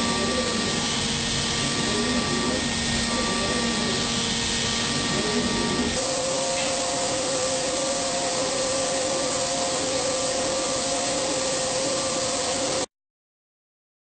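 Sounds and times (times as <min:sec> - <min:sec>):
machine hissing and whining: 0:00.0 - 0:12.9.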